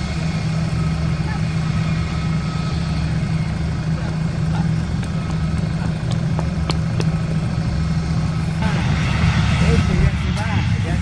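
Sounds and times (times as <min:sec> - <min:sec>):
jet engines humming and whining: 0:00.0 - 0:11.0.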